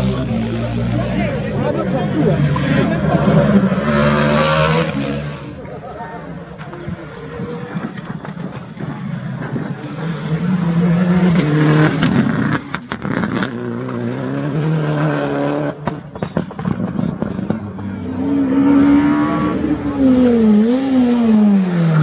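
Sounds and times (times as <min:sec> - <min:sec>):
rally car engine accelerating: 0:00.0 - 0:05.8, 0:06.6 - 0:22.0.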